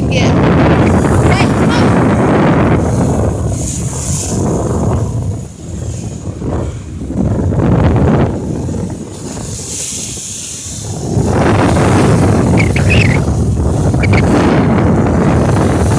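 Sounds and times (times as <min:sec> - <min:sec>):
ocean surf washing: 0:00.0 - 0:15.9
wind buffeting microphone: 0:00.0 - 0:15.9.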